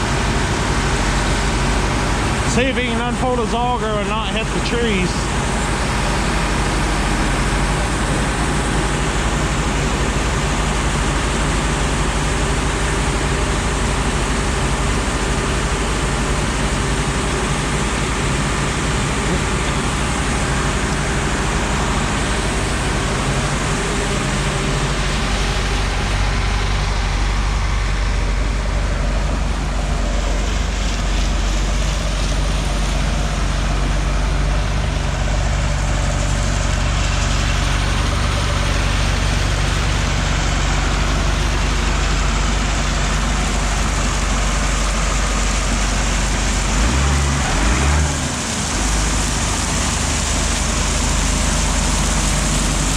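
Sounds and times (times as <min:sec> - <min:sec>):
farm machine engine running: 0:00.0 - 0:52.9.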